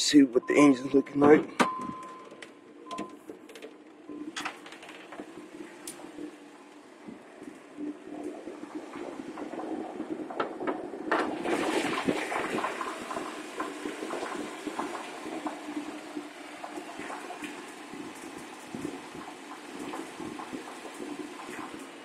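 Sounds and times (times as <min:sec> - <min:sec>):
engine idling with misfire: 0:00.0 - 0:22.0
engine knocks and clatter: 0:00.8 - 0:22.0.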